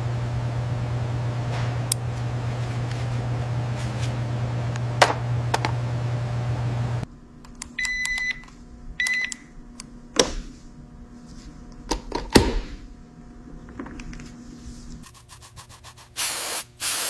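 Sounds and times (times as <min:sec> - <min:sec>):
steady electric hum: 0:00.0 - 0:17.0.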